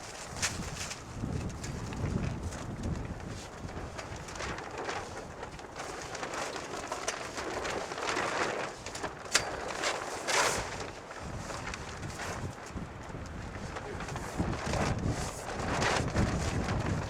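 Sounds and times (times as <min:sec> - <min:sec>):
fabric cover rustling and crinkling: 0:00.0 - 0:17.0.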